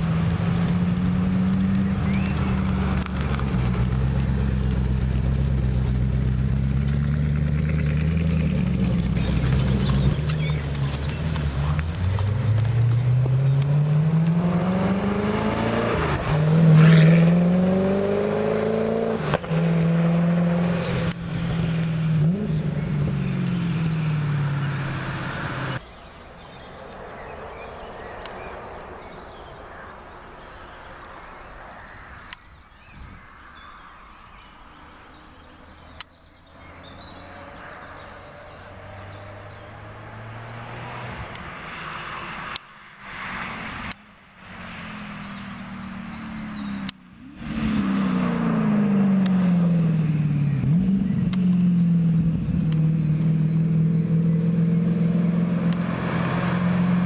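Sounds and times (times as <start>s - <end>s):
car engine accelerating: 0.0s - 30.0s, 35.4s - 42.6s, 43.3s - 57.0s
distant car engine: 0.0s - 32.4s, 33.6s - 57.0s.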